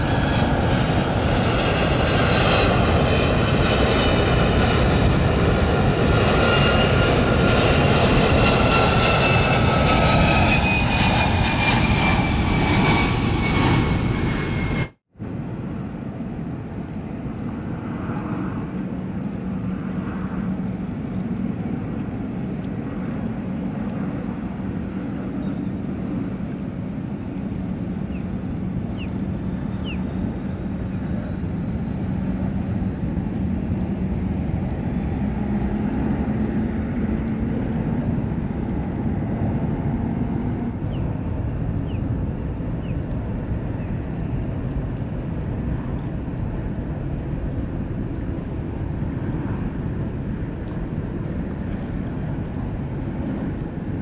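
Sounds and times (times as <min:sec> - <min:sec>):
distant jet engines rumbling: 0:00.0 - 0:54.0.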